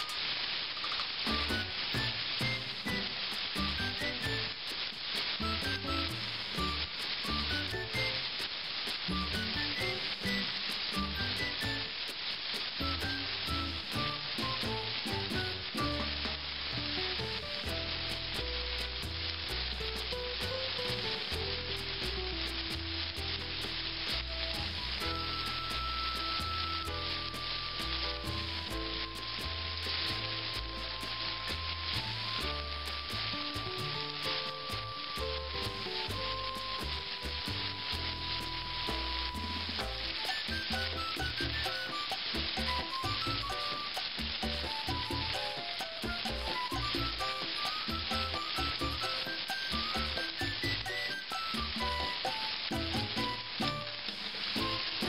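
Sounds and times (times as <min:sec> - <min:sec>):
chicken frying in oil: 0:00.0 - 0:55.0.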